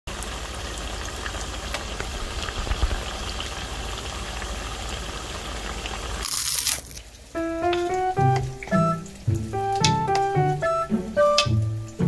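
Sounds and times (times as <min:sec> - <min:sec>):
oil sizzling and crackling: 0:00.1 - 0:12.0.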